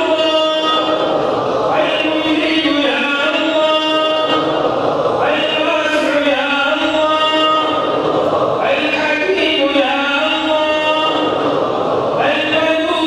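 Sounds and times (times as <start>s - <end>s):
man chanting: 0.0s - 4.6s, 5.2s - 8.0s, 8.6s - 11.5s, 12.2s - 13.0s.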